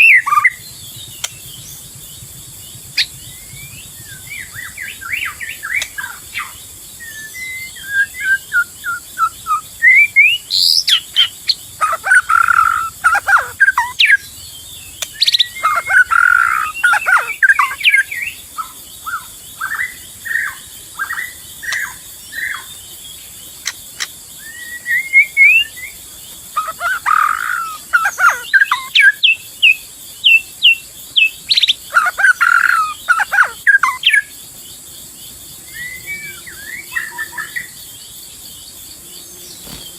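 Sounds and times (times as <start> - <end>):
bird singing whistled song: 0.0 - 2.0, 2.6 - 22.8, 23.6 - 26.0, 26.6 - 34.3, 35.6 - 37.8.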